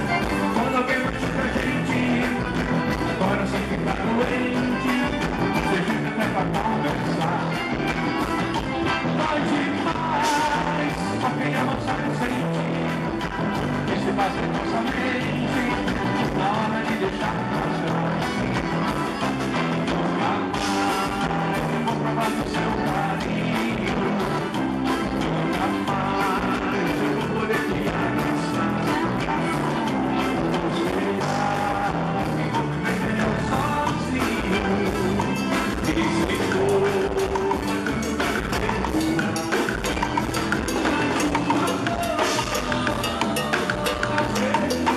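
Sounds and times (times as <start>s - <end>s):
drum kit: 0.0s - 44.9s
electric guitar: 0.0s - 44.9s
keyboard: 0.0s - 44.9s
repeating bass line: 0.0s - 44.9s.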